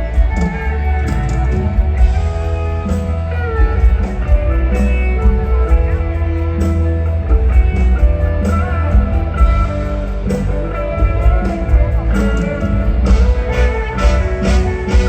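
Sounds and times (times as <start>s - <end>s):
heavy bass and steady beat: 0.0s - 15.0s.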